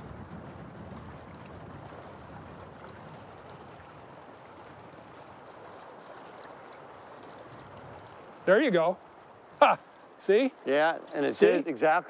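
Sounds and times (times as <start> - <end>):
fast river current rushing: 0.0 - 12.0.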